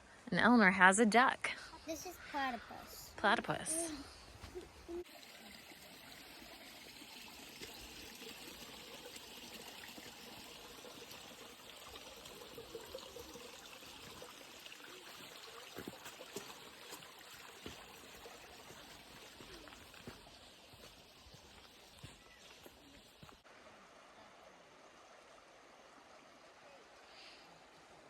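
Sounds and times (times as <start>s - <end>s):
flowing stream: 0.0s - 28.0s.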